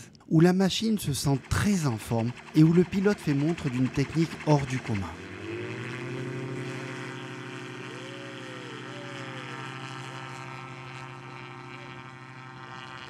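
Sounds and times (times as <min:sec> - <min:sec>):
propeller engine droning: 0:00.0 - 0:13.0.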